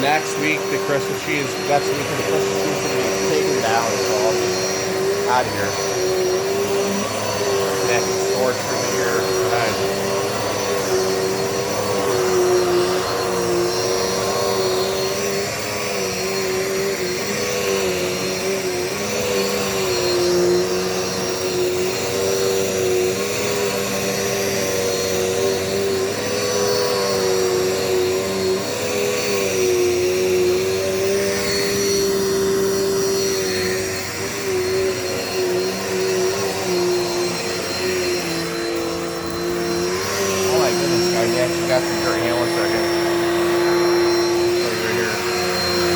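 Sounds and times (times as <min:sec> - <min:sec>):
vacuum cleaner motor whine: 0:00.0 - 0:45.9.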